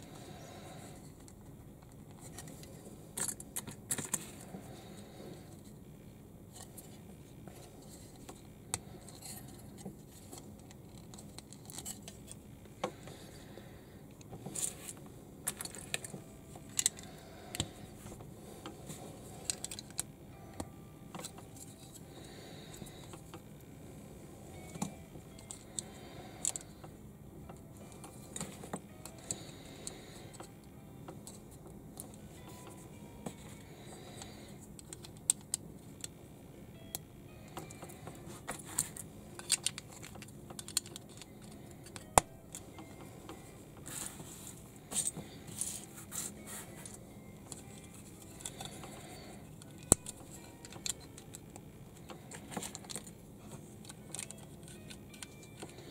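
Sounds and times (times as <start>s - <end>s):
faint steady background hum: 0.0s - 55.9s.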